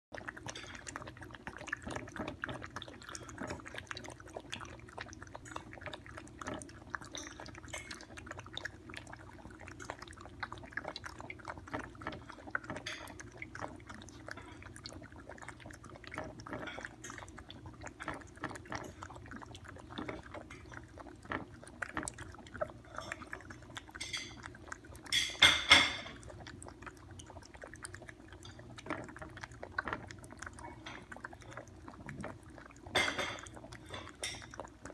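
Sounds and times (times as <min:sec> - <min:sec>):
dogs lapping milk: 0:00.1 - 0:34.9.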